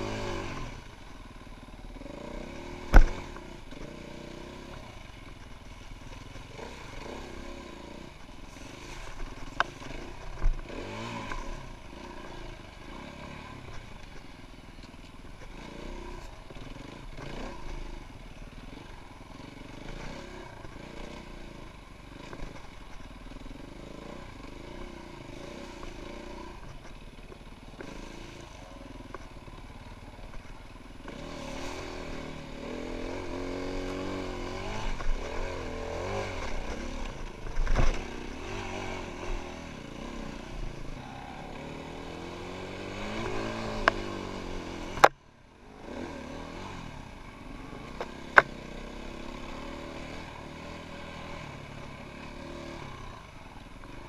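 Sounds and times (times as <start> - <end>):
dirt bike engine revving: 0.0 - 14.3, 15.4 - 54.0.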